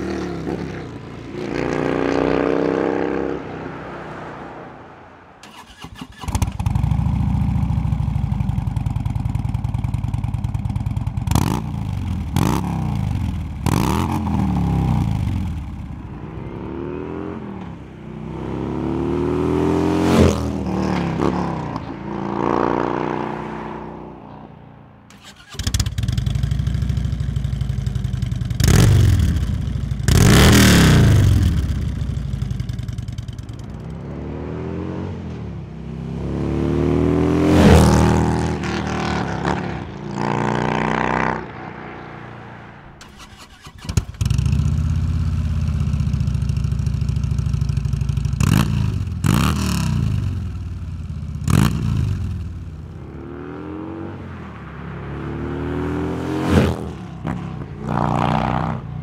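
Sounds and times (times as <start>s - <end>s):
motorcycle engine idling and revving: 0.0s - 3.7s, 5.4s - 59.0s
distant motorcycle: 0.0s - 59.0s
motorcycle riding past: 0.0s - 59.0s.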